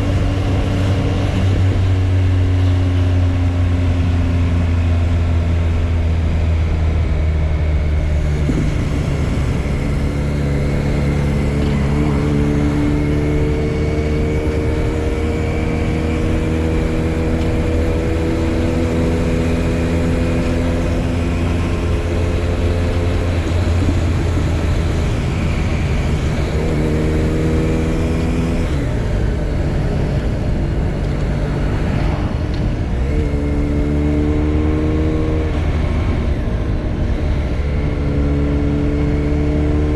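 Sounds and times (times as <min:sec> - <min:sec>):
wind rush on microphone: 0:00.0 - 0:04.7, 0:05.5 - 0:39.9
motorcycle engine running: 0:00.0 - 0:39.9.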